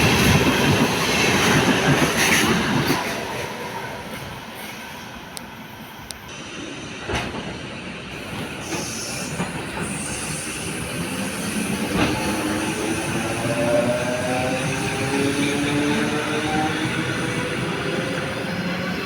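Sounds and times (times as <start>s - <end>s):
train wheels on rail: 0.0s - 19.0s.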